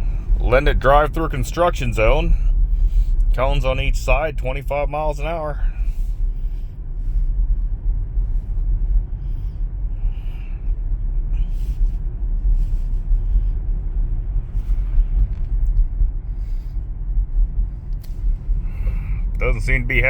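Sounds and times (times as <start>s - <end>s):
road and tyre rumble: 0.0s - 20.0s.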